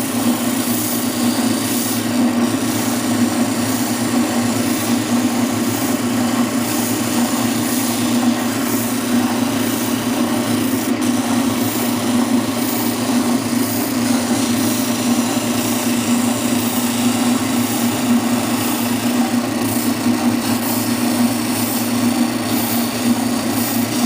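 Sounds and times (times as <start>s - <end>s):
sanding drum hissing on wood: 0.0s - 24.0s
spindle sander motor hum: 0.0s - 24.0s.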